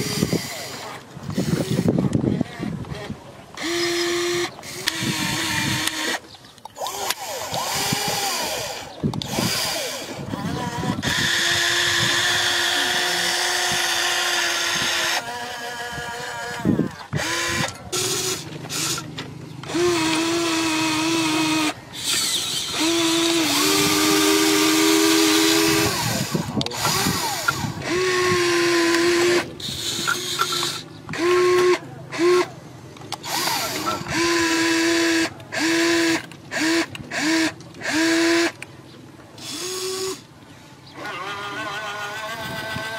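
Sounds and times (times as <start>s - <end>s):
small electric gear motors whining: 0.0s - 32.5s, 33.1s - 38.6s, 39.4s - 40.3s, 41.0s - 42.9s.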